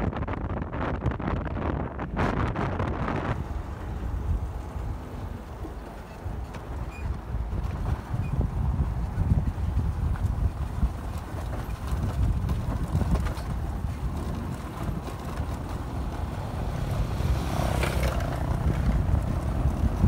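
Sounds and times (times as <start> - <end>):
vehicle rumbling on gravel road: 0.0 - 20.0
wind buffeting microphone: 0.0 - 20.0.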